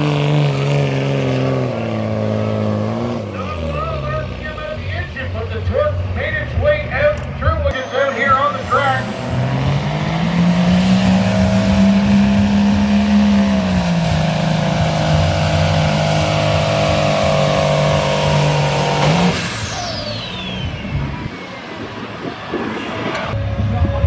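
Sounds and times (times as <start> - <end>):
diesel truck engine at full throttle: 0.0 - 24.0.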